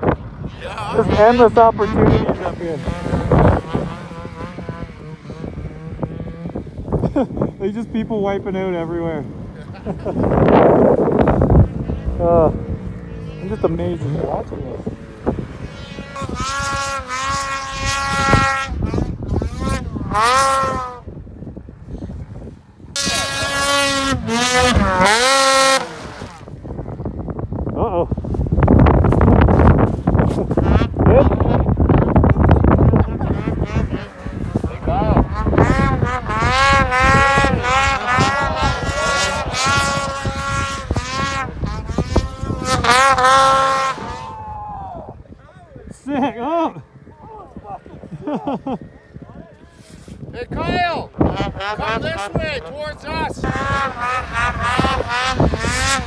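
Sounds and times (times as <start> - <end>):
snowmobile engines revving: 0.0 - 56.0.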